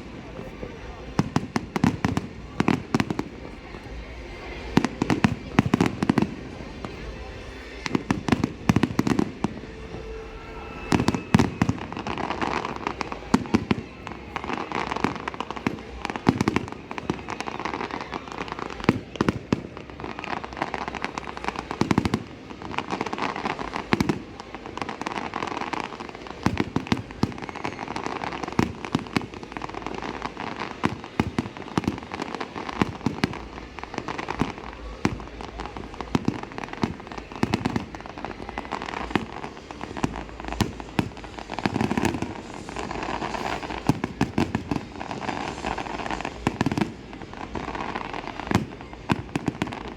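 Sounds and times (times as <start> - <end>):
fireworks bangs: 0.0 - 49.9
fireworks crackling: 0.0 - 49.9.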